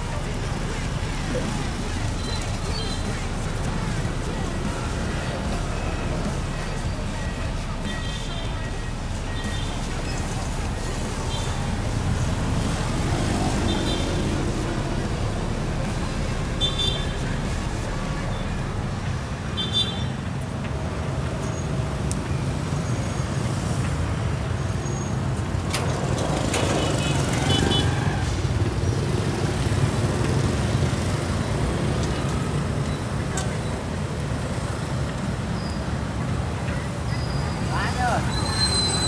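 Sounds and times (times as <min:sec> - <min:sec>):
motorbikes and cars passing: 0:00.0 - 0:39.0.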